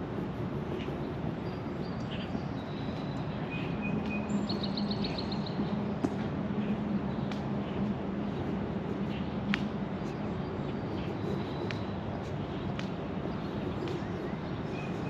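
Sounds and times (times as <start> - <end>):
city background rumble: 0.0 - 15.0
songbirds chirping: 0.4 - 15.0.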